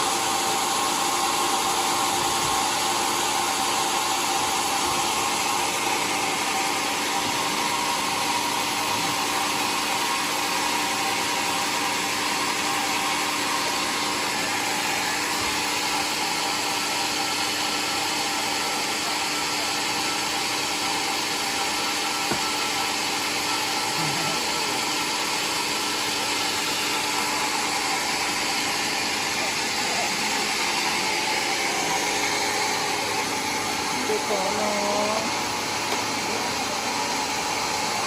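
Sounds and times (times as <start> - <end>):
sawmill saw running: 0.0 - 38.0.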